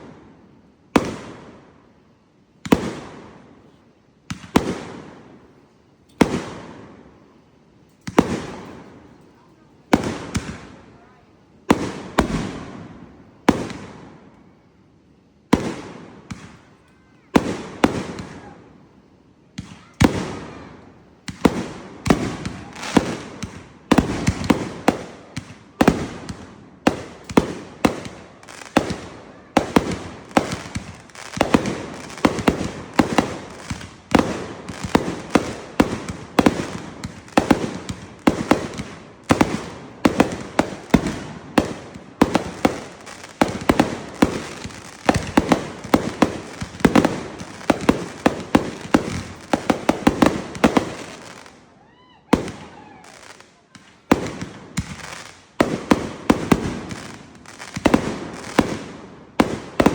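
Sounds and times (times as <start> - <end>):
fireworks bangs with crackling: 0.0 - 1.7, 2.6 - 5.6, 6.2 - 7.3, 8.0 - 14.3, 15.5 - 18.8, 19.5 - 59.9.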